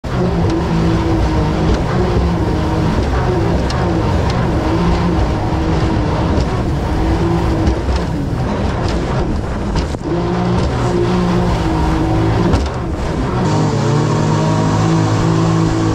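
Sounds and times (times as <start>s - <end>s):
jet boat engine running: 0.0s - 15.9s
waves slapping against hull: 0.0s - 15.9s.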